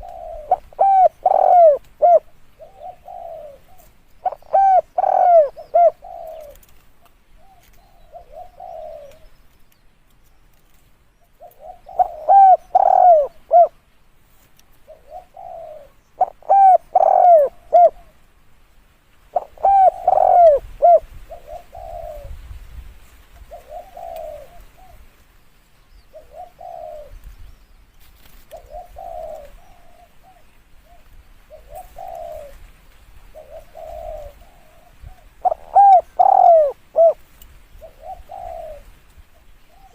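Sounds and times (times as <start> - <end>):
dove cooing: 0.0 - 6.8, 7.4 - 9.4, 11.3 - 13.9, 14.8 - 18.2, 19.3 - 22.5, 23.4 - 25.2, 26.1 - 27.3, 28.4 - 39.9.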